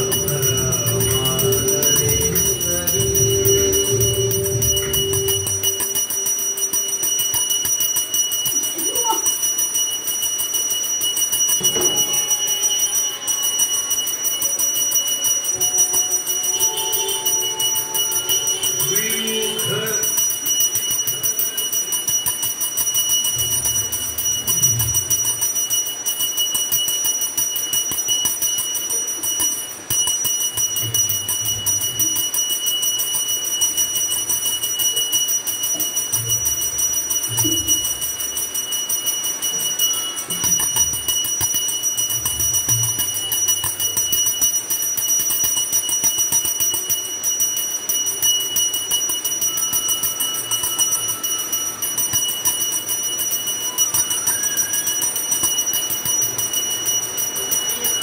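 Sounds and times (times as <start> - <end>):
hand bell ringing rapidly: 0.0 - 58.0.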